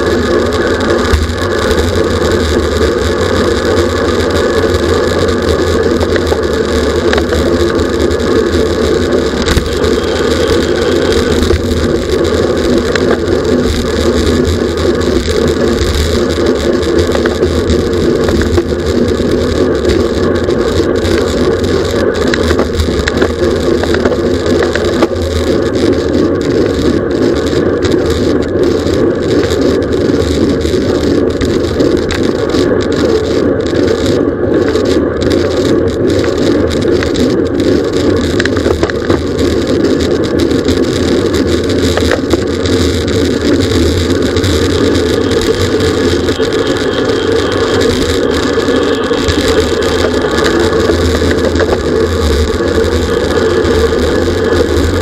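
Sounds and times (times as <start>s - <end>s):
bicycle tyre and drivetrain noise: 0.0s - 55.0s
small clicks and rattles: 0.0s - 55.0s
wind rushing on microphone: 0.0s - 55.0s.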